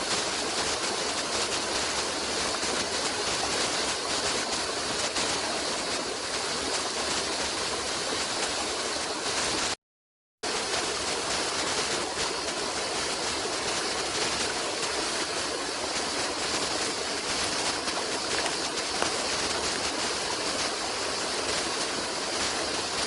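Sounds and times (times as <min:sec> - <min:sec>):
stream water rushing: 0:00.0 - 0:09.8, 0:10.5 - 0:23.0.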